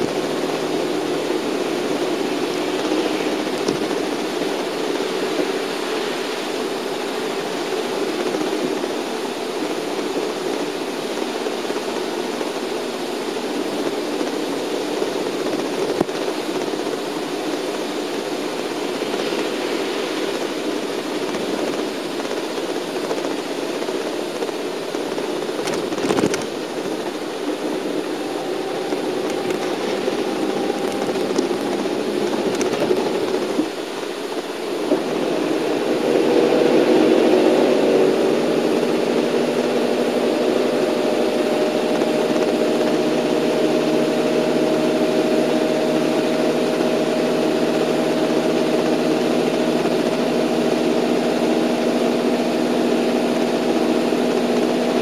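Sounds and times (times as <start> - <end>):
bus engine and road noise: 0.0 - 55.0
tyres on wet road: 0.0 - 55.0.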